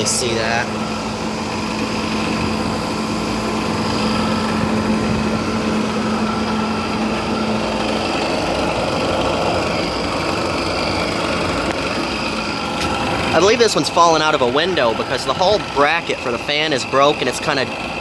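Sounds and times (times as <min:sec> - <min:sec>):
air conditioner humming: 0:00.0 - 0:18.0
whining tones: 0:00.0 - 0:18.0.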